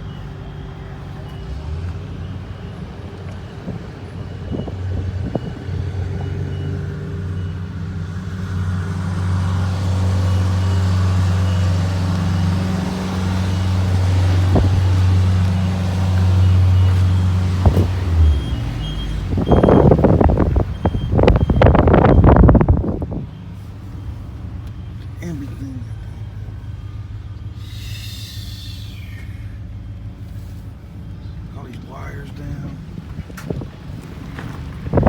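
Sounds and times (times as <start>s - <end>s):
car engine and road hum: 0.0s - 35.0s.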